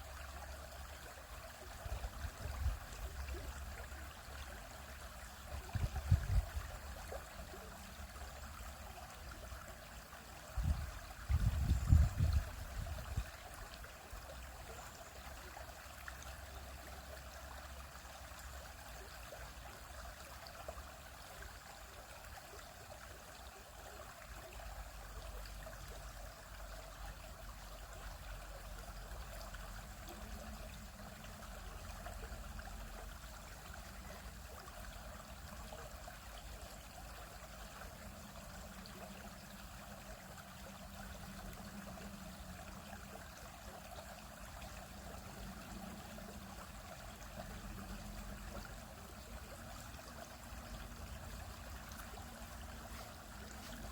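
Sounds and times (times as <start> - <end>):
stream flowing over rocks: 0.0 - 53.9.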